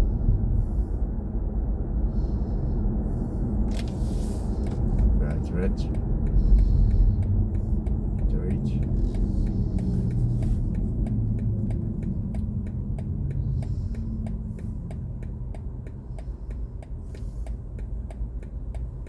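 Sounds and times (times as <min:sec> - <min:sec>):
road rumble inside car: 0:00.0 - 0:19.0
turn signal ticking: 0:03.4 - 0:19.0.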